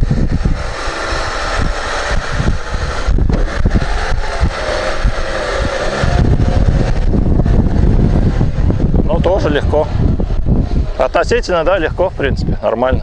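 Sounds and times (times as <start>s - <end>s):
car engine pulling under load: 0.0s - 11.7s.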